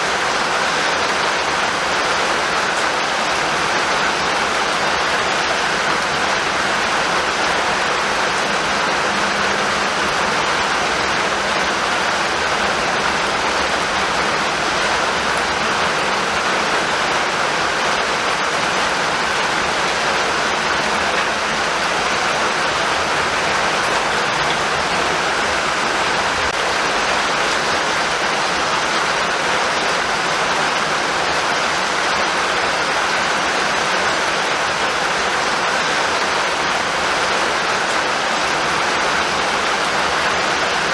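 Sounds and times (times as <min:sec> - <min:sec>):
steady rainfall hiss: 0:00.0 - 0:40.9.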